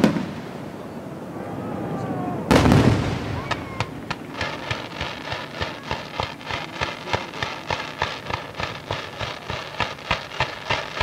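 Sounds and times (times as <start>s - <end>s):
fireworks crackling hiss: 0.0s - 1.2s, 2.5s - 11.0s
fireworks bangs: 0.0s - 11.0s.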